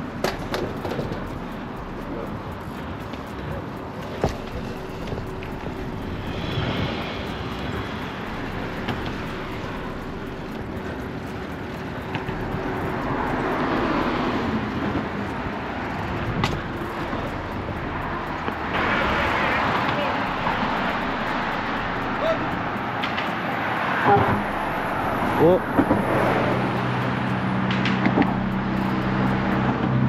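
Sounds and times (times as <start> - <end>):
bike tyre noise on pavement: 0.0 - 30.0
wind rush: 0.0 - 30.0.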